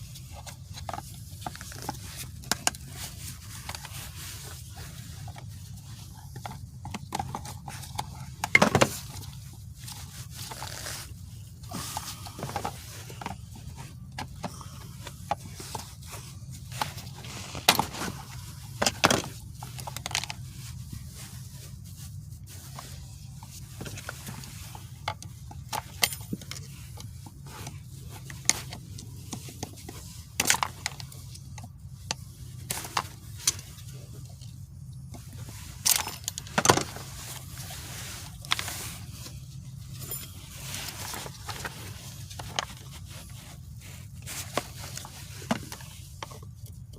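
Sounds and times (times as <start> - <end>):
hand tools clicking and scraping: 0.0 - 46.9
steady low hum: 0.0 - 46.9.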